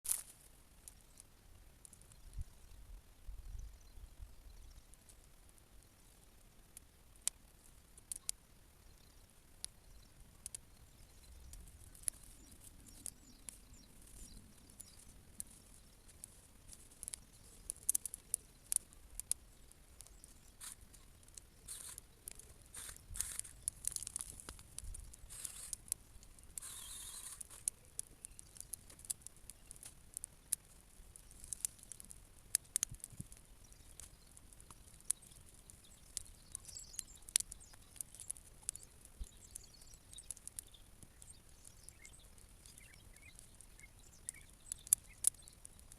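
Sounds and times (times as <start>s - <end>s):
bonfire crackling and popping: 0.1s - 45.9s.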